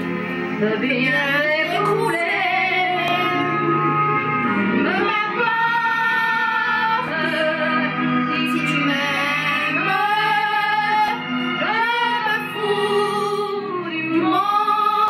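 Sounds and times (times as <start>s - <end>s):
musical accompaniment: 0.0s - 15.0s.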